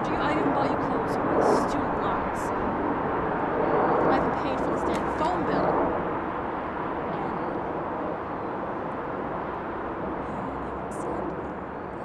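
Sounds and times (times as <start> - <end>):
distant city traffic rumble: 0.0 - 12.0.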